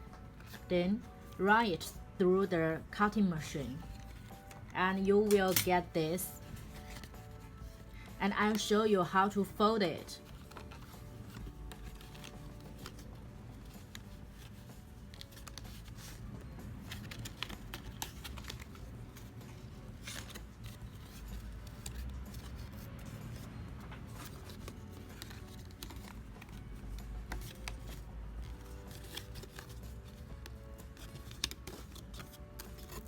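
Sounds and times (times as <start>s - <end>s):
faint background music: 0.0s - 33.0s
paper rustling and folding: 0.2s - 1.4s, 3.6s - 4.8s, 6.3s - 8.7s, 10.1s - 33.0s.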